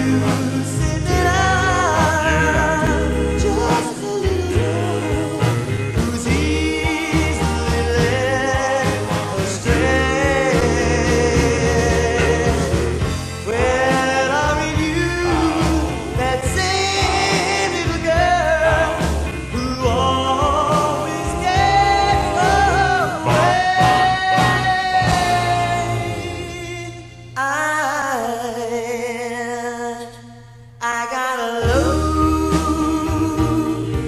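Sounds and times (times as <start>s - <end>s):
voices singing in harmony: 0.0s - 27.4s
low bass: 0.0s - 31.0s, 31.6s - 34.0s.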